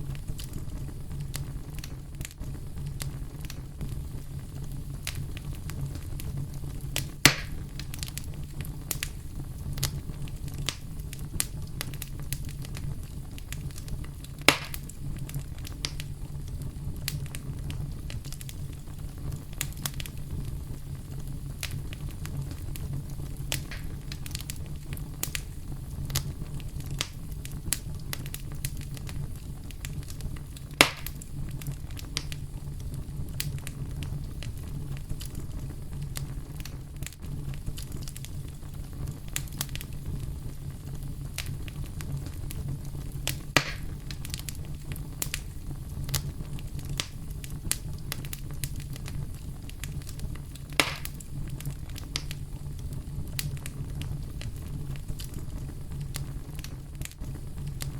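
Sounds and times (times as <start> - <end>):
campfire crackling and popping: 0.0 - 57.9
low rumble of brown noise: 0.0 - 57.9.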